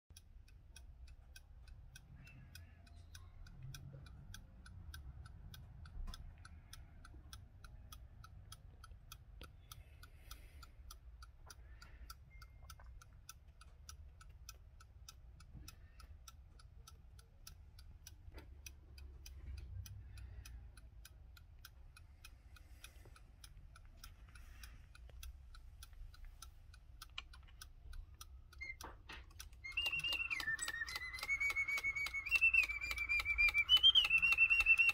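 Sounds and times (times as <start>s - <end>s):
clock ticking fast: 0.1s - 34.9s.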